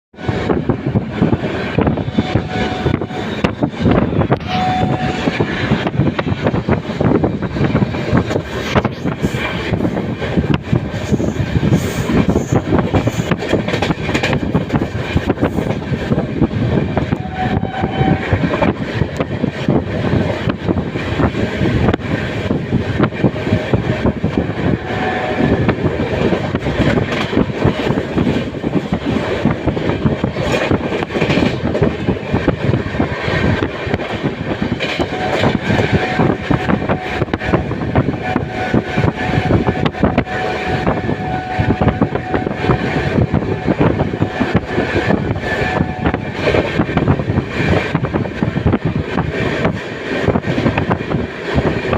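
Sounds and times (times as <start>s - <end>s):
train wheels clattering on track: 0.2s - 51.9s.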